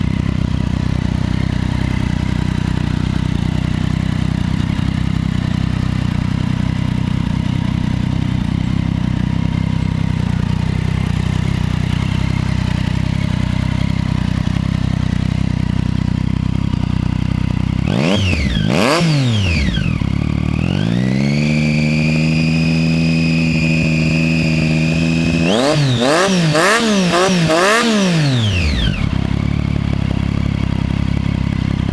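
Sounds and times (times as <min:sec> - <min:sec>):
motorcycle engine idling and revving: 0:00.0 - 0:31.9.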